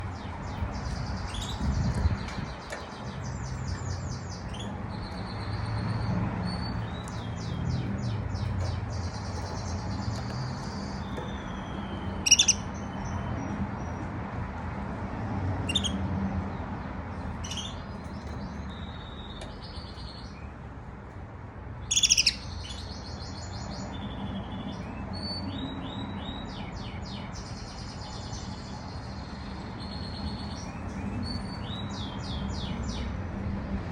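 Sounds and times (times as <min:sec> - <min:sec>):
canary singing soft trills and chirps: 0:00.0 - 0:14.2, 0:15.6 - 0:33.2.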